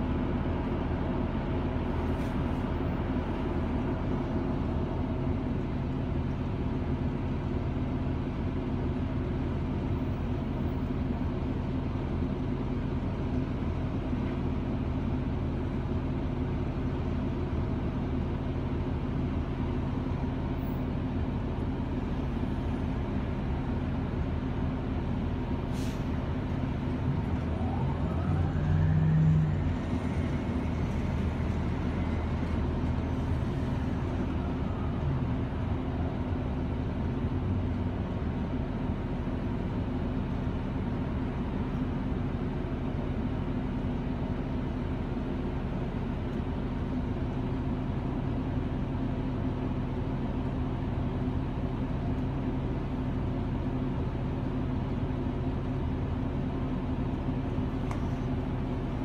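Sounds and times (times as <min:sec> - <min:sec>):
bus drivetrain rising whine: 0:00.0 - 0:59.0
bus engine hum: 0:00.0 - 0:59.0.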